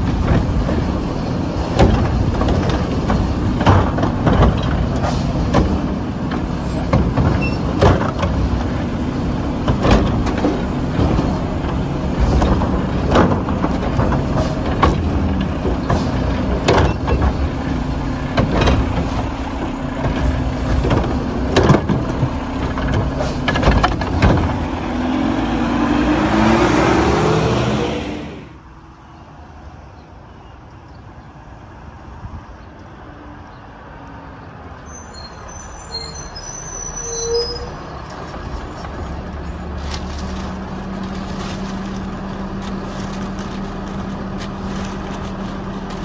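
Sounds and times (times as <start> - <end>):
garbage truck diesel engine: 0.0 - 30.5, 31.4 - 46.0.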